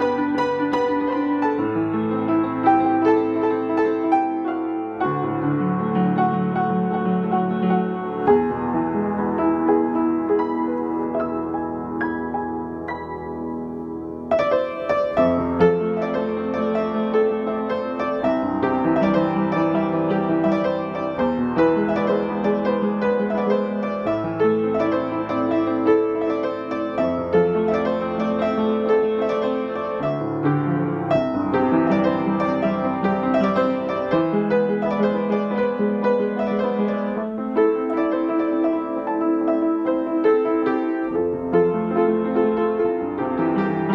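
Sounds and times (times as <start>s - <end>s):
gentle piano music: 0.0s - 43.9s.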